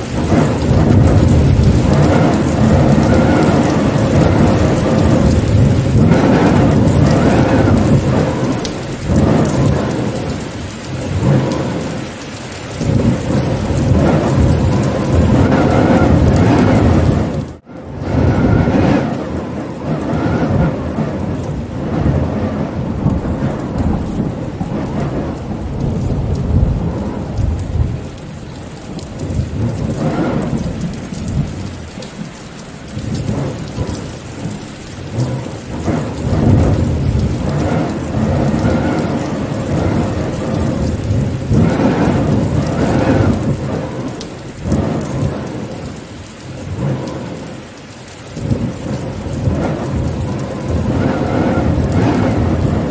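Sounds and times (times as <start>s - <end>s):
rolling thunder rumbles: 0.0s - 52.9s
steady rain: 0.0s - 52.9s.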